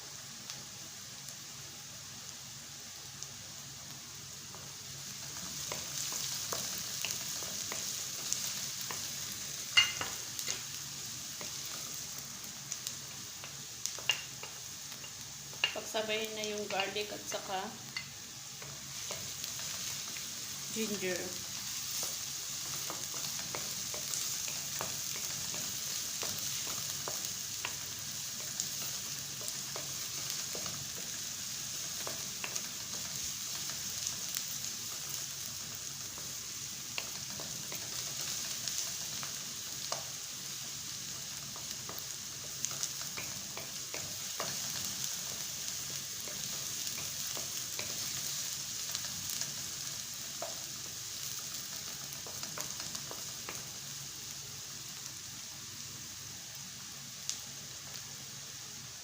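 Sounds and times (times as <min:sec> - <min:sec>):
garlic sizzling in hot oil: 0:00.0 - 0:59.0.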